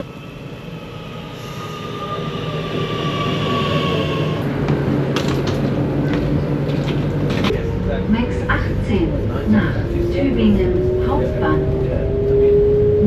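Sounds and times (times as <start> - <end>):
electric train rumble and whine: 0.0 - 13.0.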